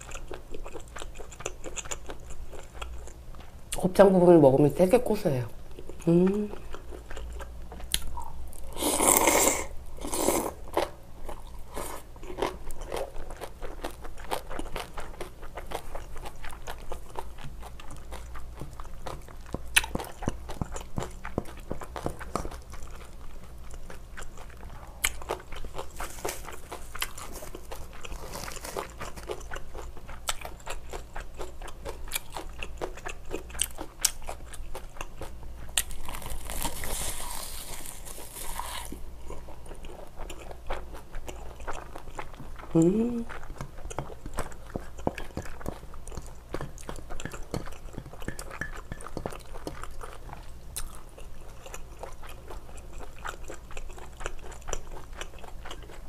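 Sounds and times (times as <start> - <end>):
woman chewing with wet smacks: 0.0 - 3.9, 5.7 - 9.2, 10.0 - 37.2, 37.9 - 56.0.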